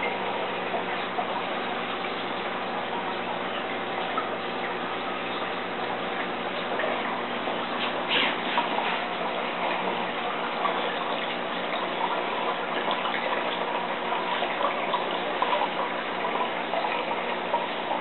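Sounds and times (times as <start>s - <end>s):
faint steady hum: 0.0s - 18.0s
water splashing in fish tank: 0.0s - 18.0s.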